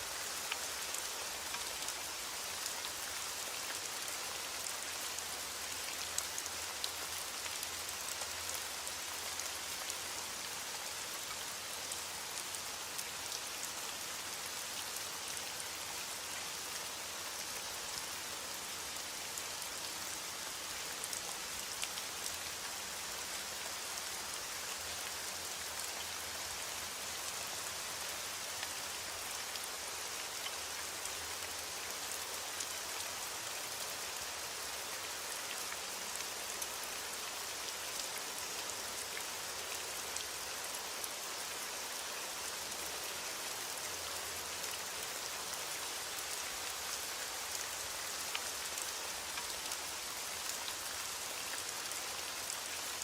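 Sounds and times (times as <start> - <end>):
rain drops ticking on a surface: 0.0 - 53.0.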